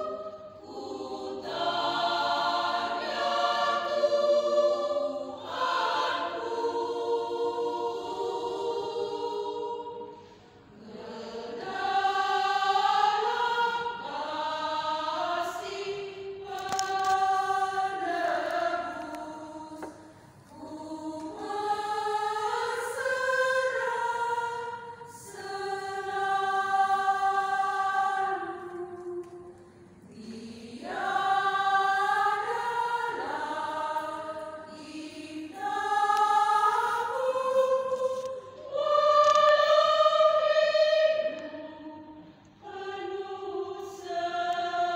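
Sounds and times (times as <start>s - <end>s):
women's choir singing a hymn: 0.0s - 44.9s.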